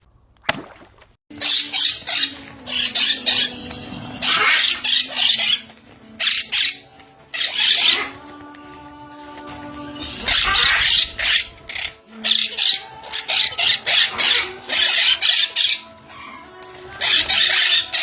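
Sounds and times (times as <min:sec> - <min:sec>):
parakeet chicks squawking: 0:01.3 - 0:08.4, 0:10.0 - 0:18.0.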